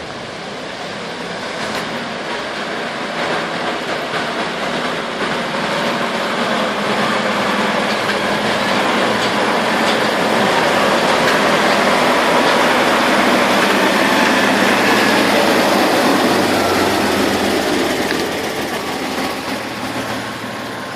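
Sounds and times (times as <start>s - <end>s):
road noise: 0.0s - 20.9s
truck diesel engine: 0.0s - 20.9s.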